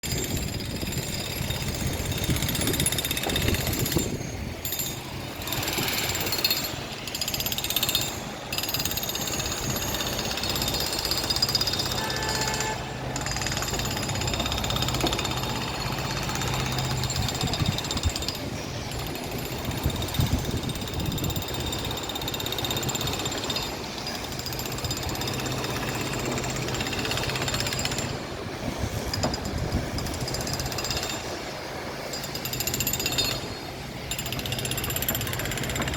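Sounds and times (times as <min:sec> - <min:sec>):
jackhammer hammering: 0:00.0 - 0:28.2, 0:29.0 - 0:35.9.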